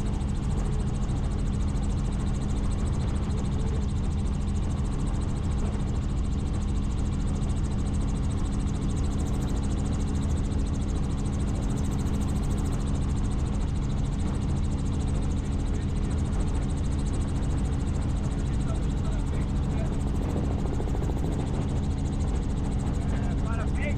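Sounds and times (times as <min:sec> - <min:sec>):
helicopter rotor and engine drone: 0:00.0 - 0:23.9.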